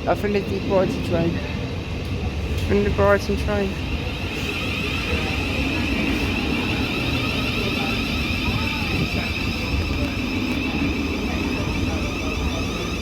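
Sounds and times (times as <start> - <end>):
train high whine: 0.0 - 13.0
train low rumble: 0.0 - 13.0.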